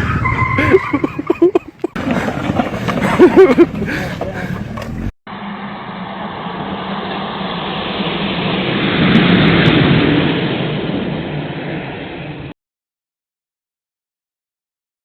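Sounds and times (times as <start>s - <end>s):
vehicle engine and road noise: 0.0s - 12.6s.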